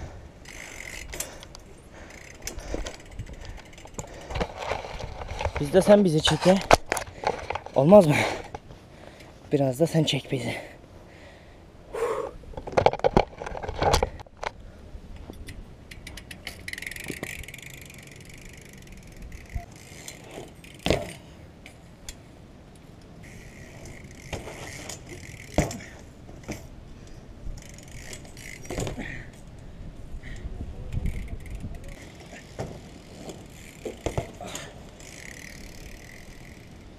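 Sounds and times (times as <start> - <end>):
bike parts rattling: 0.0 - 9.8, 12.5 - 14.6, 15.2 - 36.9
bike tyres rolling: 0.0 - 9.8, 12.4 - 36.9.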